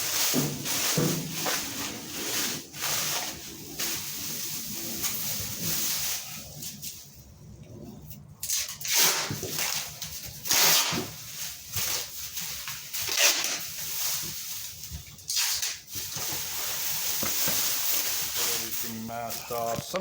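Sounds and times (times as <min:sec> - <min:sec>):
plastic sheeting rustling: 0:00.0 - 0:07.3, 0:08.0 - 0:20.0.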